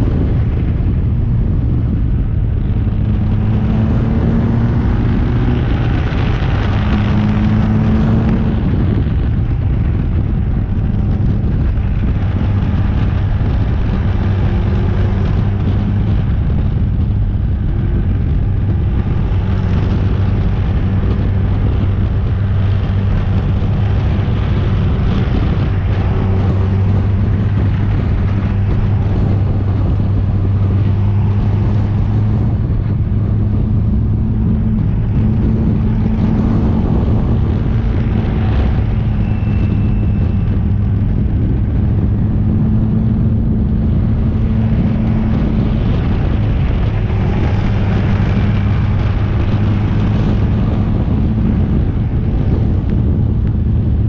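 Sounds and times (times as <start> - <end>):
car engine running steadily: 0.0 - 54.0
wind rush: 0.0 - 54.0.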